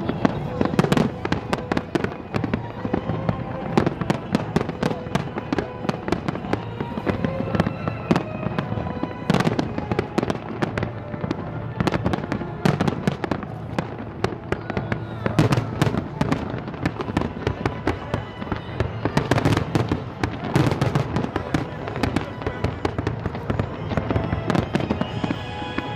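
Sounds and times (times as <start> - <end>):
fireworks bangs and crackling: 0.0 - 25.9.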